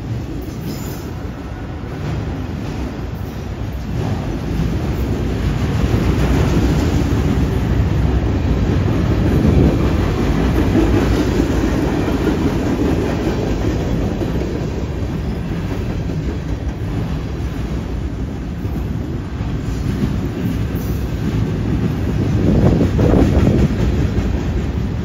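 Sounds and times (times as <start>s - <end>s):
train wheels rumbling and clacking: 0.0s - 25.0s.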